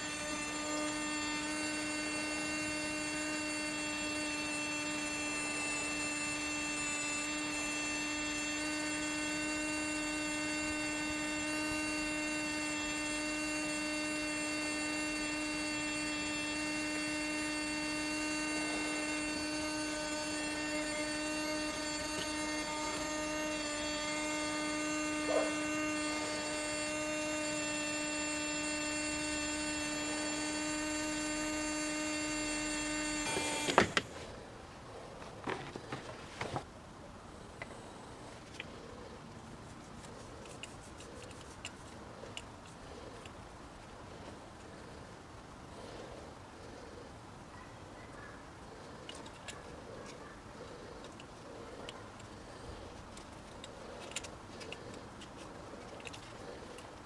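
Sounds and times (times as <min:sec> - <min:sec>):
heat pump humming: 0:00.0 - 0:57.0.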